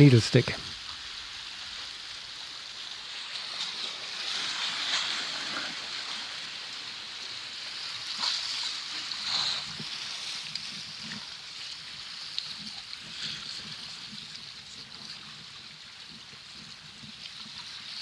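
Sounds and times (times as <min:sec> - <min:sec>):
sea waves splashing against boulders: 0:00.0 - 0:18.0.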